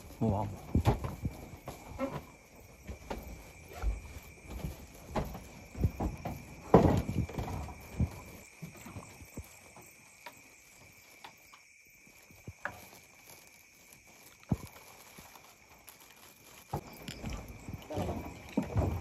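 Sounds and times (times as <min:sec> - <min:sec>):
footsteps on wooden planks: 0:00.0 - 0:19.0
high insect drone: 0:00.0 - 0:19.0.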